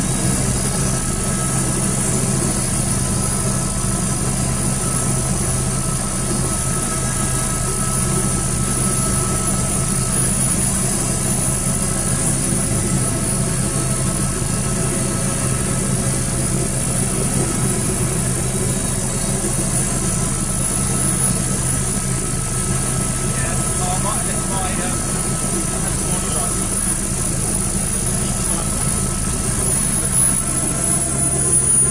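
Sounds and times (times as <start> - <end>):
helicopter engine and rotor drone: 0.0 - 31.9
high turbine whine: 0.0 - 31.9.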